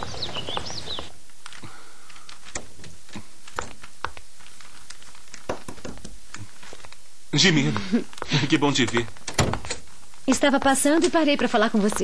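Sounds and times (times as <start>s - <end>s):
steady hiss: 0.0s - 12.0s
paper rustling: 1.2s - 12.0s.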